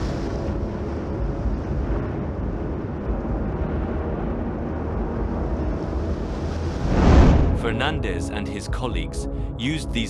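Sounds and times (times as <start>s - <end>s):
volcano rumbling: 0.0s - 8.4s.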